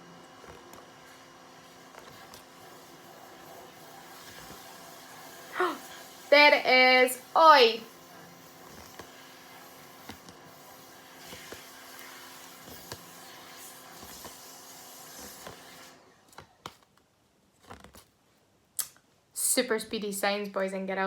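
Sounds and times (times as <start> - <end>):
room hum and hiss: 0.0 - 21.0.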